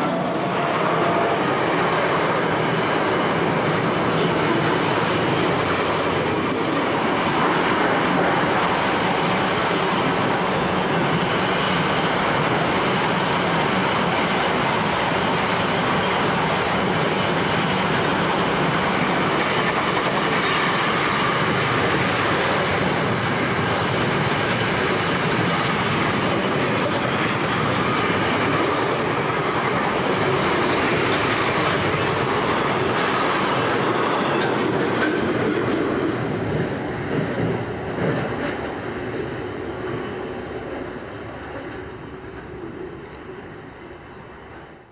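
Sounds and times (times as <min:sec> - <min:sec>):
train wheels clickety-clack on rails: 0:00.0 - 0:43.5.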